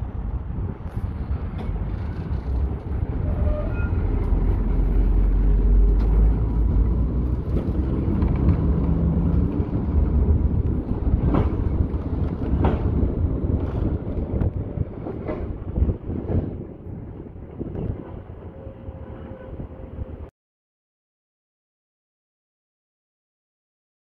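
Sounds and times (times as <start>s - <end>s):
tram rumbling on track: 0.0s - 20.3s.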